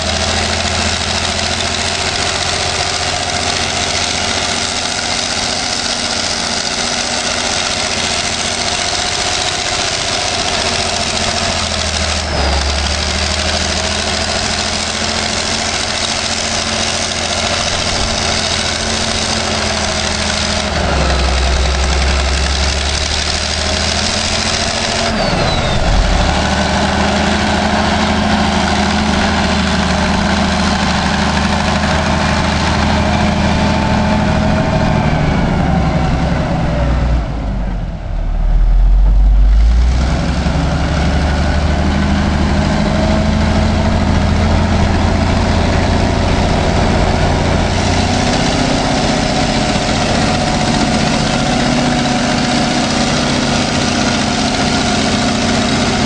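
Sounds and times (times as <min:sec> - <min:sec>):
wheel loader diesel engine: 0:00.0 - 0:56.0.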